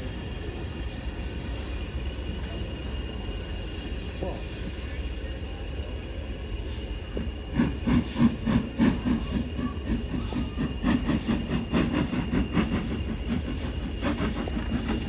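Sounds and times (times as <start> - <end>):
steam locomotive beats: 0.0 - 15.0.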